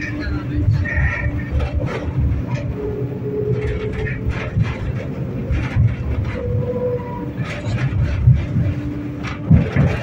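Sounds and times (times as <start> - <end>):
tram wheels rumbling on rail: 0.0 - 10.0
tram whine: 0.0 - 10.0.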